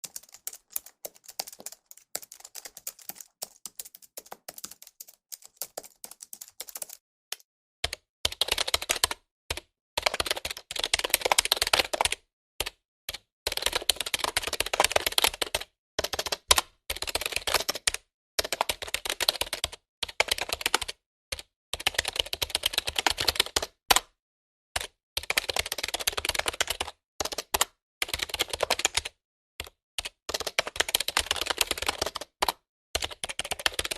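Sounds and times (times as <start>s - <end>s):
typing on computer keyboard: 0.0s - 24.1s, 24.8s - 33.9s.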